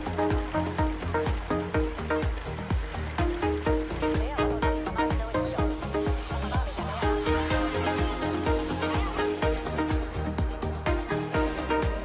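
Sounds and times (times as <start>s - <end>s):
background music with steady beat: 0.0s - 12.0s
held synth notes: 0.0s - 12.0s.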